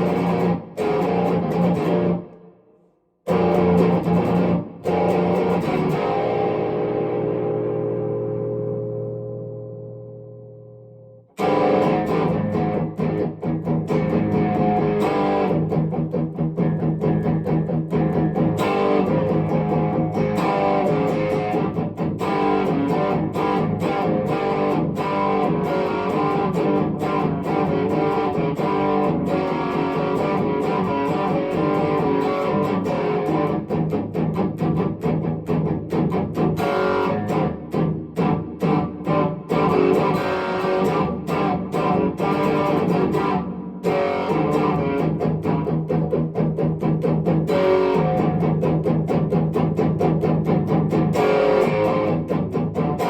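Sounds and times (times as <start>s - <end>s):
electric guitar playing: 0.0s - 2.4s, 3.3s - 53.0s.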